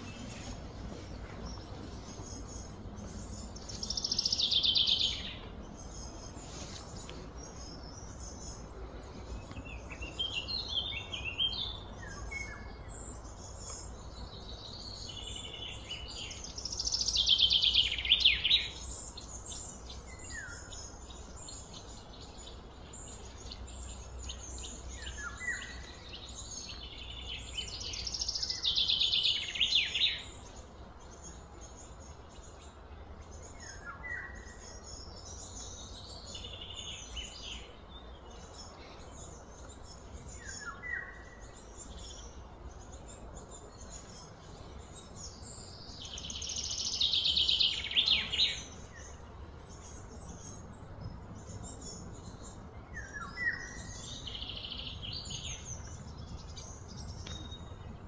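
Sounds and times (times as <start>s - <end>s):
bird chirps: 0.0s - 58.0s
birds singing falling phrases: 0.0s - 58.0s.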